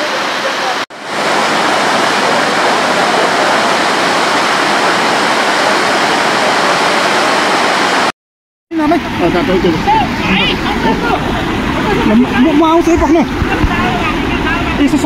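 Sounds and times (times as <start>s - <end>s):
floodwater rushing over rocks: 0.0s - 8.1s, 8.8s - 15.0s.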